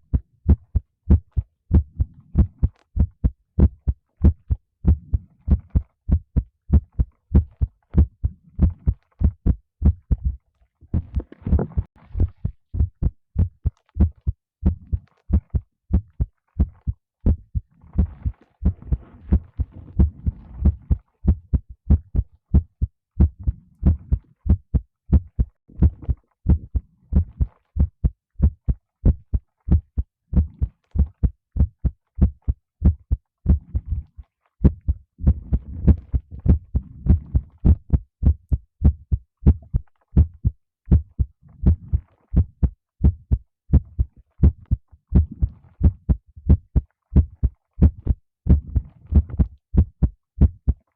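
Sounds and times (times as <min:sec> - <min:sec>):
heartbeat thumps: 0:00.0 - 0:50.8.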